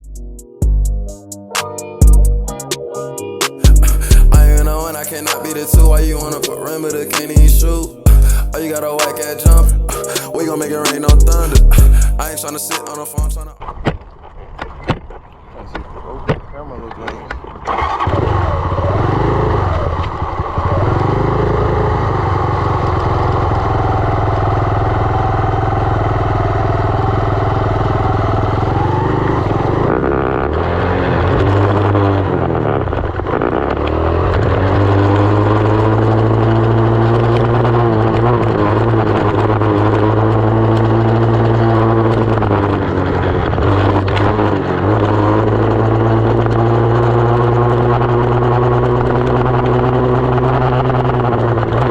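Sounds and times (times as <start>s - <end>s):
dirt bike engine revving: 3.6s - 13.0s, 17.6s - 51.9s.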